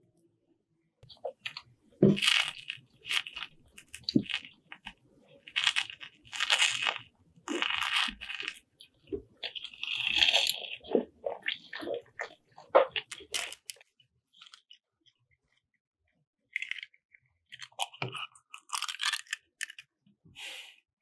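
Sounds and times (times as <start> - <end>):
person chewing and crunching: 1.0 - 14.8, 16.5 - 19.9.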